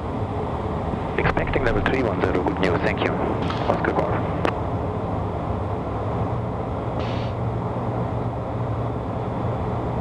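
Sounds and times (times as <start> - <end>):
jet cockpit airflow and engine drone: 0.0 - 10.0.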